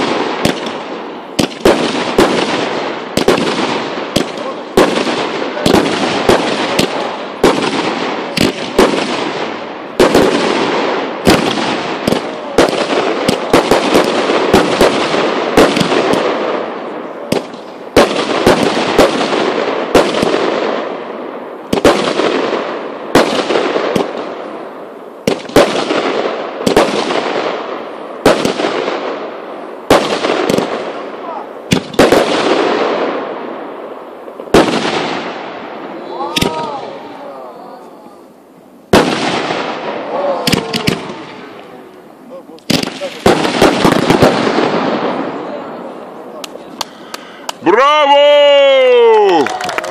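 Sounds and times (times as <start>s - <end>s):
fireworks banging with hiss: 0.0s - 48.2s.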